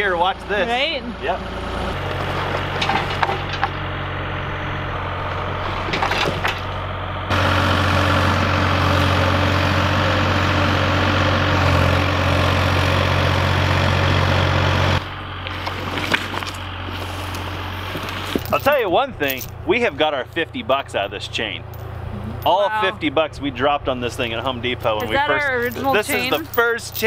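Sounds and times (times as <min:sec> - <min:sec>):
diesel engine running under load: 0:00.0 - 0:27.0.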